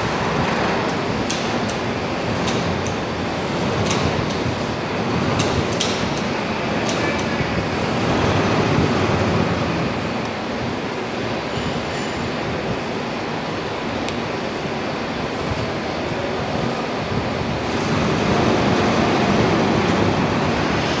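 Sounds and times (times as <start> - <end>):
furnace rushing noise: 0.0 - 12.3, 15.1 - 21.0.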